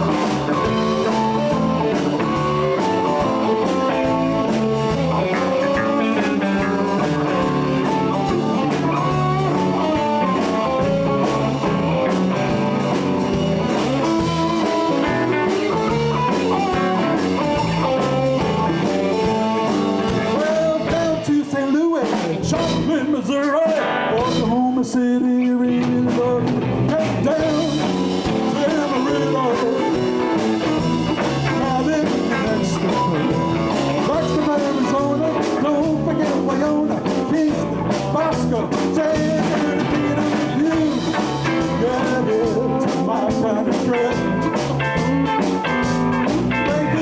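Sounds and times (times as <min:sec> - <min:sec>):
lead guitar: 0:00.0 - 0:47.0
live blues band playing: 0:00.0 - 0:47.0.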